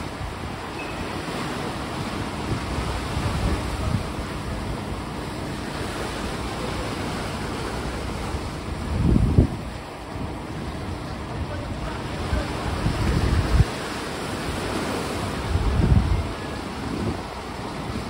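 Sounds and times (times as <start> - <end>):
sea water surging: 0.0 - 18.0
wind buffeting microphone: 1.3 - 18.0.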